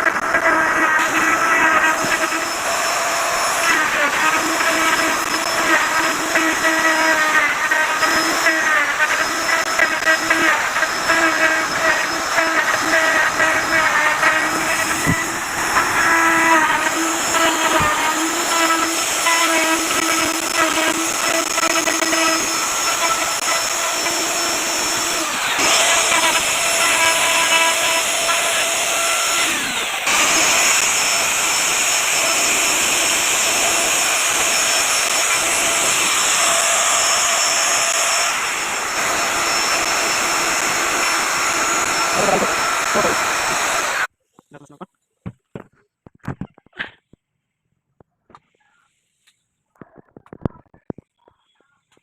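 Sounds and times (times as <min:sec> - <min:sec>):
wood router cutting: 0:00.0 - 0:44.1.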